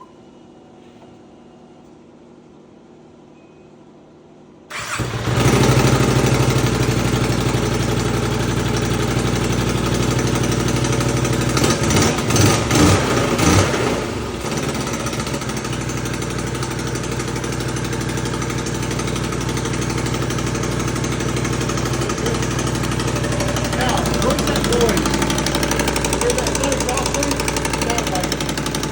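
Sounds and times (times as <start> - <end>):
engine idling and revving: 4.7 - 28.9.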